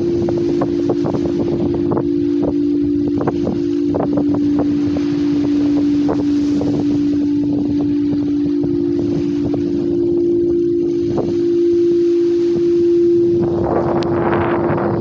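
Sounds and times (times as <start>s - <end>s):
singing bowl low tone: 0.0s - 15.0s
wind buffeting microphone: 0.0s - 15.0s.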